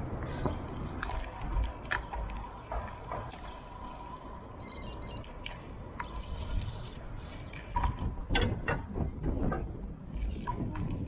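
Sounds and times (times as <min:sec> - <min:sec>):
bicycle road and wind noise: 0:00.0 - 0:11.0.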